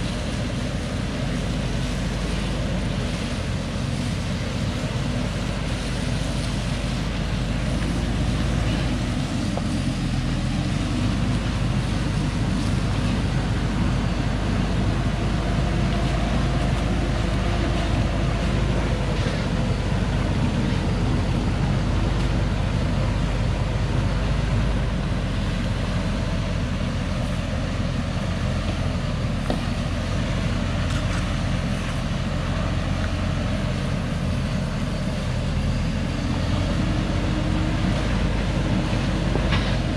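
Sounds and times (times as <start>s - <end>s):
truck diesel engine under load: 0.0s - 39.9s.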